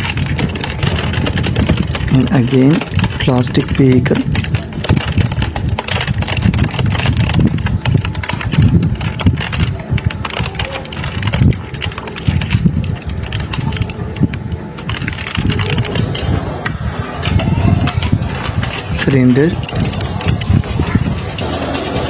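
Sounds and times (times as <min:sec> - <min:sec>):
plastic cracking and crunching: 0:00.0 - 0:22.0
shredder machine rumble: 0:00.0 - 0:22.0.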